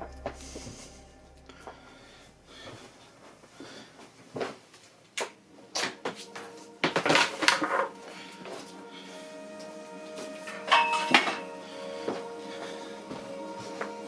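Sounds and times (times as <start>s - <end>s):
background music: 0.0s - 4.0s, 5.2s - 14.0s.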